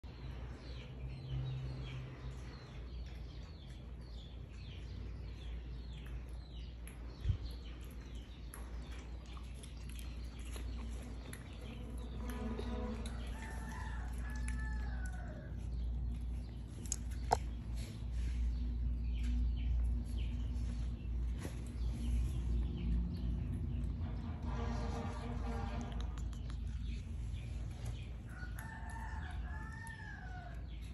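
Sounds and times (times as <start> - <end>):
low steady rumble: 0.0 - 30.9.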